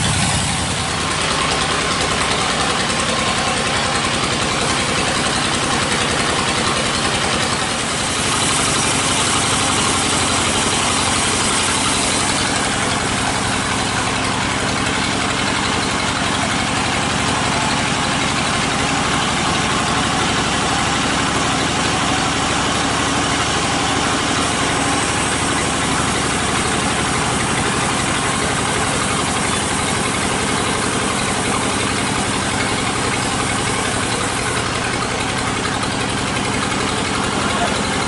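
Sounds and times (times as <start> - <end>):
engine idling: 0.0 - 38.0.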